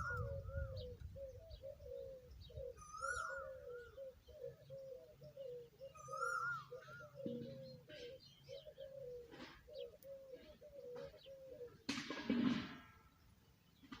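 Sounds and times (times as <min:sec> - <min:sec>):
higher bird chirps: 0:00.0 - 0:11.9.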